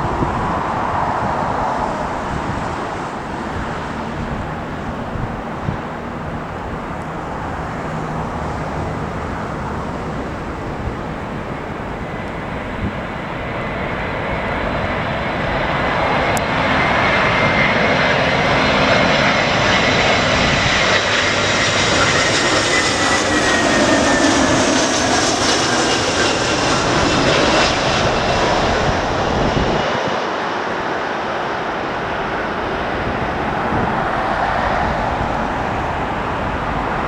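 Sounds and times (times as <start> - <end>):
jet airliner passing: 0.0 - 37.0
jet fan whine: 0.0 - 37.0.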